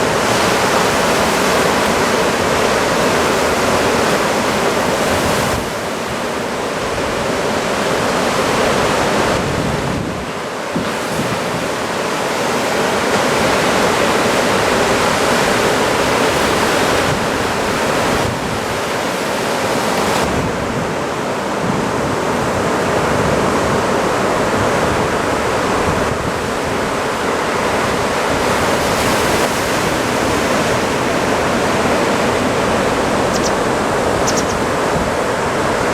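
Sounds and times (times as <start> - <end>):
wind rumbling on microphone: 0.0 - 35.9.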